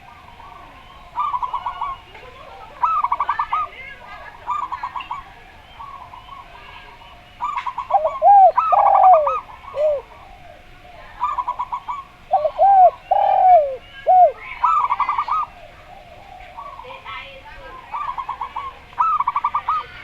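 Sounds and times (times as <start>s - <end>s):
dove cooing low: 0.0s - 20.0s
doves trilling: 0.0s - 20.0s.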